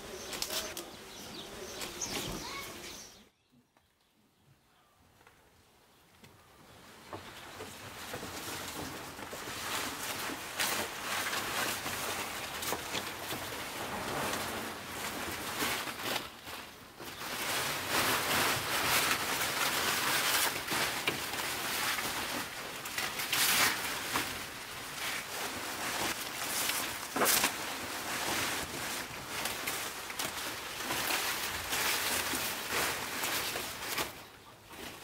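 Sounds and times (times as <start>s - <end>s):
branches and leaves rustling: 0.0s - 3.2s, 5.1s - 35.0s.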